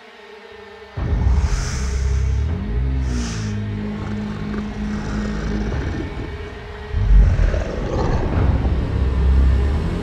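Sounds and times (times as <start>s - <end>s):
deep loud rumble: 1.0s - 10.0s.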